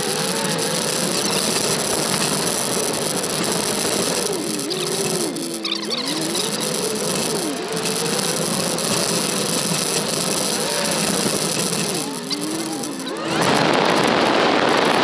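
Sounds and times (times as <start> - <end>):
car engine revving: 0.0 - 15.0
wind and road noise: 0.0 - 15.0.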